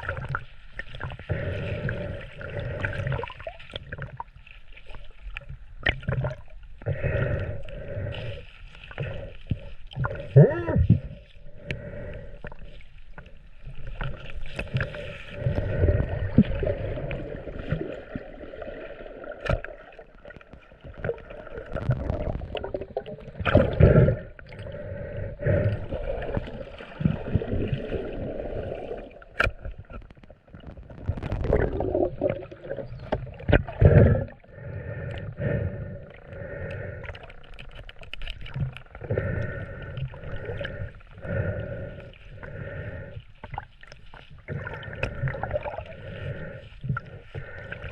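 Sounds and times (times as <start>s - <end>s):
water sloshing and gurgling: 0.0s - 47.9s.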